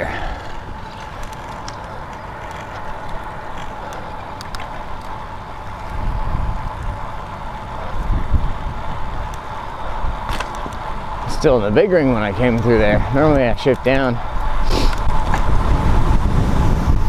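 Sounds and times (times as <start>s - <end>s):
bicycle road noise: 0.0s - 17.0s
wind on microphone: 0.0s - 17.0s.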